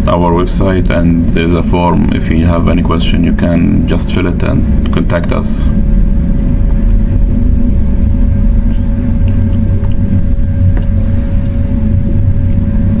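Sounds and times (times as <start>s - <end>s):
low rumble and hum: 0.0s - 13.0s
thin constant tone: 0.0s - 13.0s.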